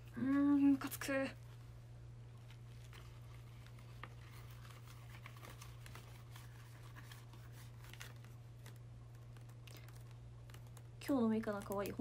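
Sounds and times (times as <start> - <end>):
patch crinkling and clicking: 0.6 - 12.0.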